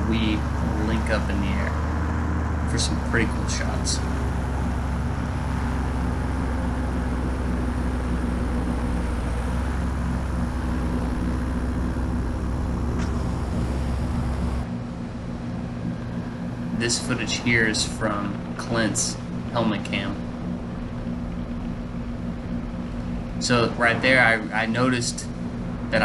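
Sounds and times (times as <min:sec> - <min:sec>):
paramotor engine idling: 0:00.0 - 0:26.0.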